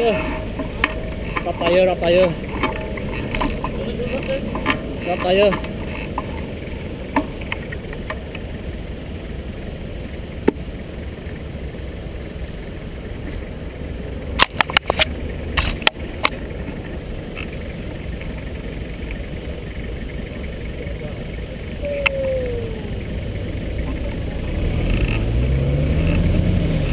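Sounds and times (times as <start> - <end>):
road traffic rumble: 0.0 - 26.9.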